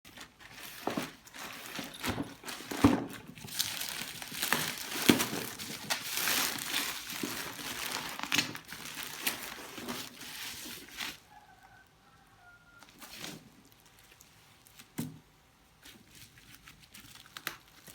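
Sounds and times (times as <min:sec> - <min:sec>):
packaging crinkling and rustling: 0:00.1 - 0:11.3, 0:12.8 - 0:17.9.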